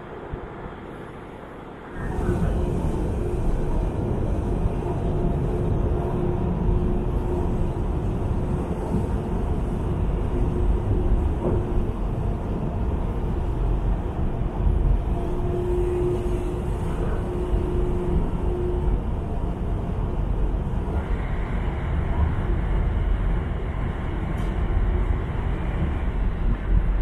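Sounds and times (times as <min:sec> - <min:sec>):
ship engines rumbling: 0:00.2 - 0:27.0.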